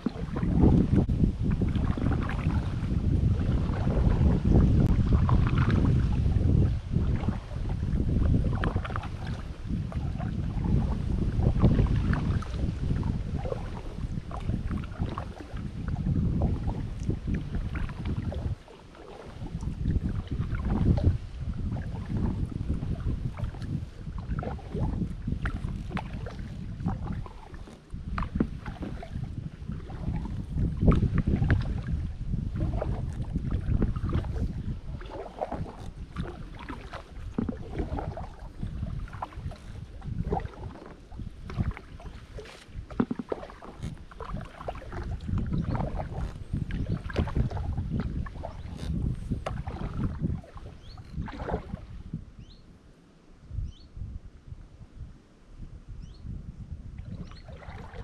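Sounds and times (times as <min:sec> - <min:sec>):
kayak paddle splashing in water: 0:00.0 - 0:52.1, 0:57.0 - 0:58.0
wind rumbling on microphone: 0:00.0 - 0:58.0.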